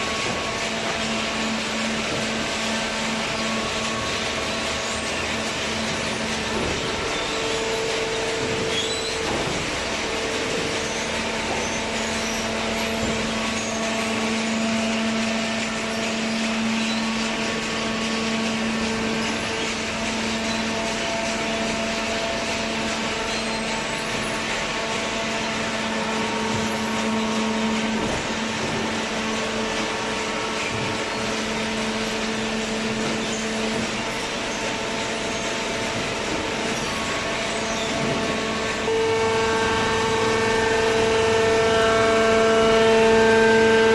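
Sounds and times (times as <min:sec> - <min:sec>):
noisy whir: 0:00.0 - 0:43.9.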